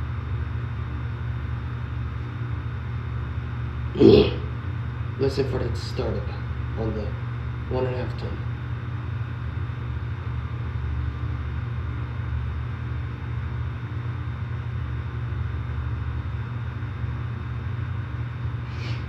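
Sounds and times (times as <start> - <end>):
air conditioner units humming: 0.0 - 19.0.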